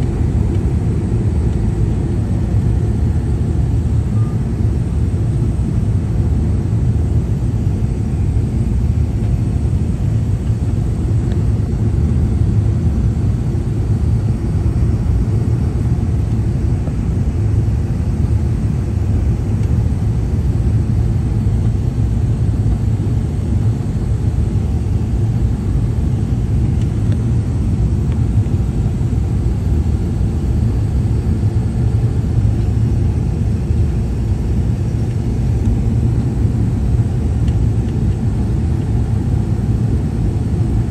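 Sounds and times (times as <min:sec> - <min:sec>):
airliner engines rumbling in cabin: 0:00.0 - 0:40.9.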